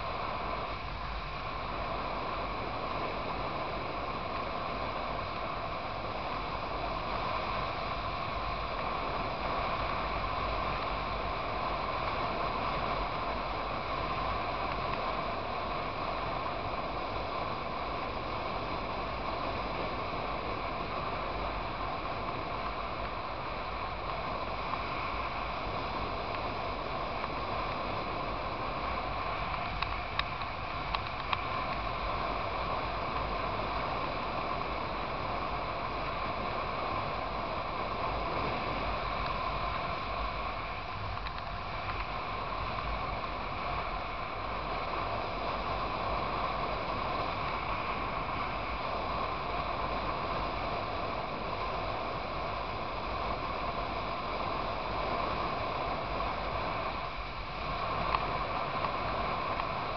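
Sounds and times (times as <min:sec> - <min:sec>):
motorcycle engine and road noise: 0:00.0 - 0:59.9
wind rush: 0:00.0 - 0:59.9.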